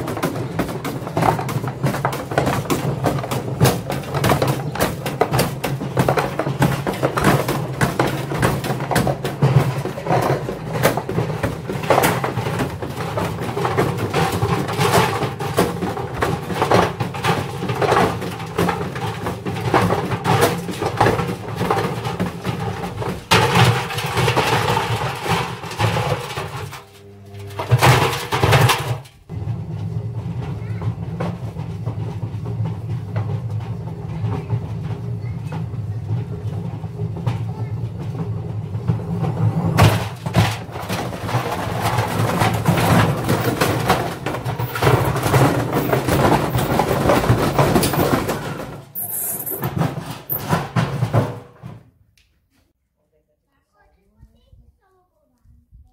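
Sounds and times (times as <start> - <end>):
bricks banging in washing machine: 0.0 - 52.0.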